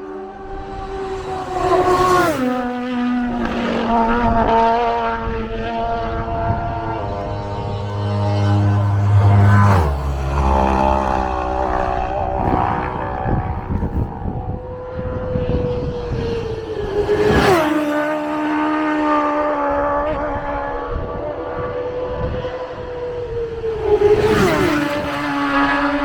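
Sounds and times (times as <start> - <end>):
racing motorcycle passing by: 0.0 - 26.0
wind rumble on microphone: 0.1 - 26.0.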